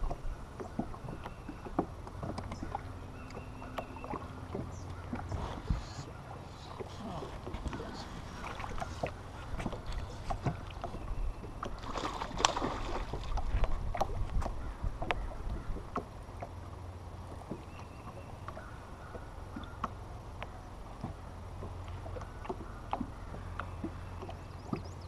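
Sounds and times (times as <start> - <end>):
waves slapping against boat hull: 0.0 - 16.7, 17.3 - 25.0.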